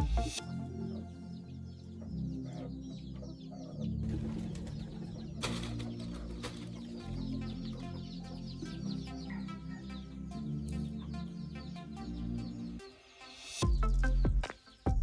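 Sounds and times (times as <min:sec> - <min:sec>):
music with low sustained notes: 0:00.0 - 0:15.0.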